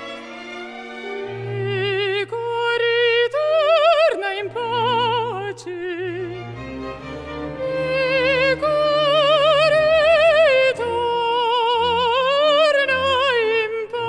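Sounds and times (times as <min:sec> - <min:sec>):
woman singing opera: 0:01.3 - 0:06.5, 0:07.6 - 0:14.0.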